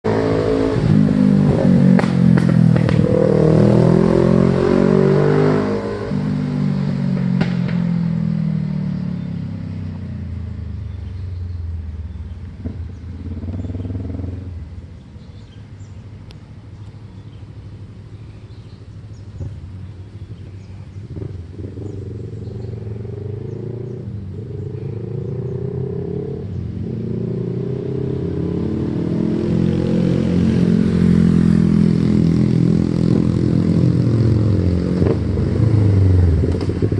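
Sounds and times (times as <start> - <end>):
motorcycle engine revving: 0.0 - 15.5, 18.5 - 36.9.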